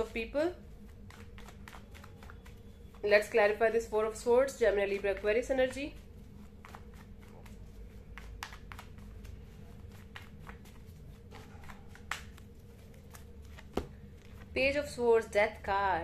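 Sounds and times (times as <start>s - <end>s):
cards being shuffled: 0.0s - 3.0s, 4.7s - 14.6s
faint hum: 0.0s - 16.0s.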